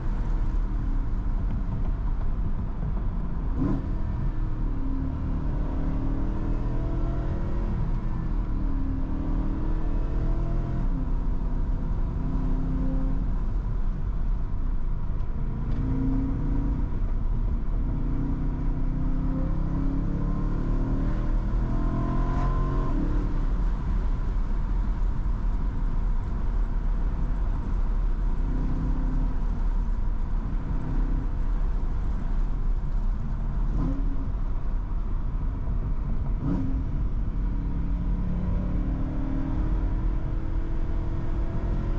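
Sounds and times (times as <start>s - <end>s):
car engine accelerating: 0.0s - 13.8s, 14.8s - 41.9s
road rumble: 0.0s - 41.9s.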